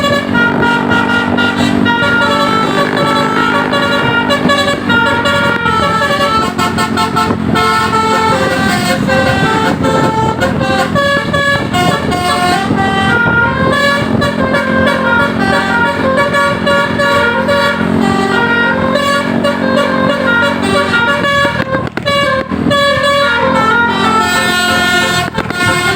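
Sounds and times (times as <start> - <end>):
multi-tone bus horn melody: 0.0 - 25.9.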